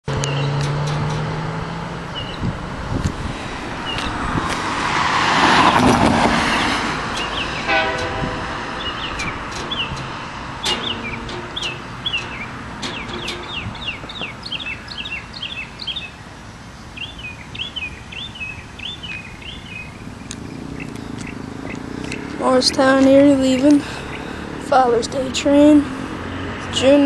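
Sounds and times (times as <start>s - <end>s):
outdoor background noise: 0.0s - 27.0s
songbirds chirping: 0.1s - 3.0s, 3.6s - 5.0s, 5.8s - 27.0s.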